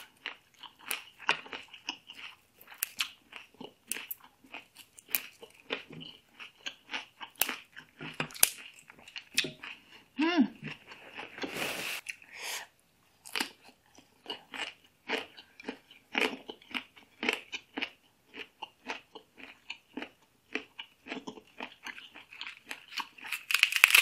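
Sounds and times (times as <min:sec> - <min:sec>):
chewing and crunching salad: 0:00.0 - 0:12.3, 0:13.1 - 0:24.0.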